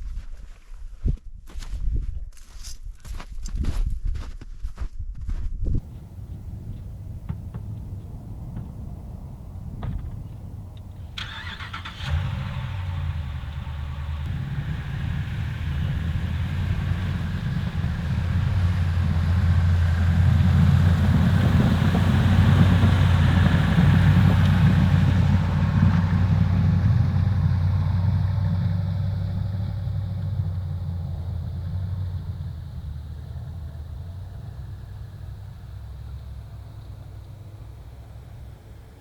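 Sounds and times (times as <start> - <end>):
vehicle engine humming past: 5.8 - 39.0.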